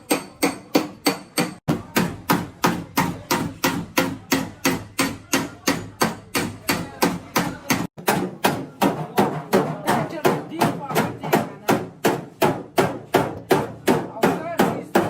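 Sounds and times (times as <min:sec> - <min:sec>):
hammer beating car body panel: 0:00.0 - 0:15.0.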